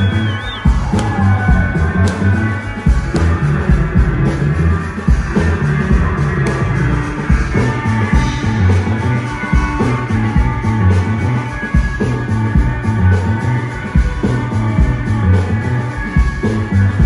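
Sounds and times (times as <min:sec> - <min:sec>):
bass line: 0:00.0 - 0:17.0
electric guitar: 0:00.0 - 0:17.0.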